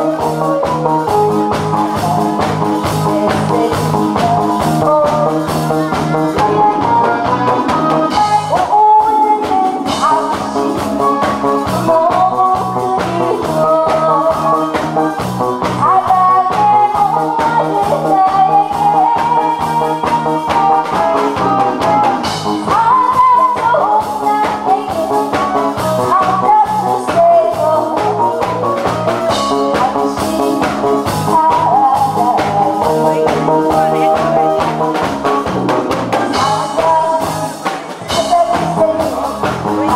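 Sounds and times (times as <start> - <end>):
backing-track music with beat: 0.0 - 39.9
woman singing into microphone: 0.0 - 39.9.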